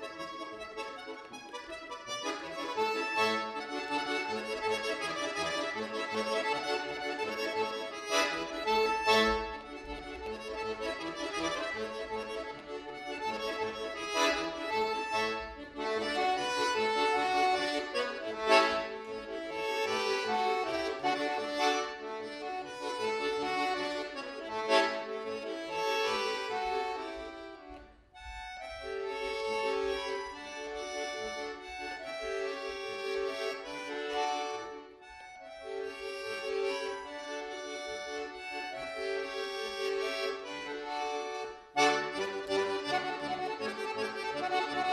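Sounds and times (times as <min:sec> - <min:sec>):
button accordion playing: 0:00.0 - 0:44.9.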